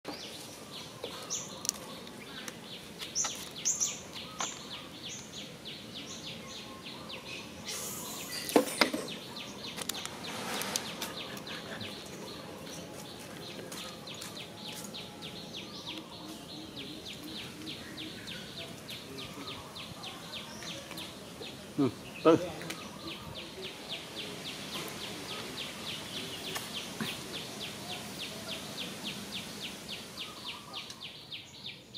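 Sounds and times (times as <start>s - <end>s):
higher bird chirps: 0.1s - 31.9s.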